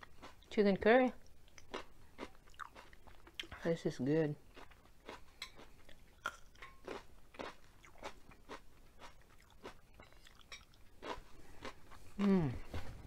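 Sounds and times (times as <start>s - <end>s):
chewing crunchy food: 0.0s - 0.6s, 1.2s - 3.7s, 4.4s - 13.0s.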